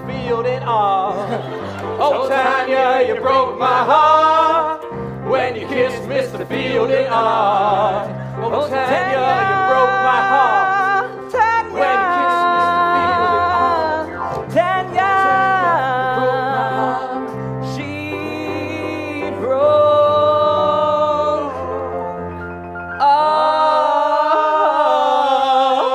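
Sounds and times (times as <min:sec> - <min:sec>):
sustained instrumental chords: 0:01.2 - 0:25.9.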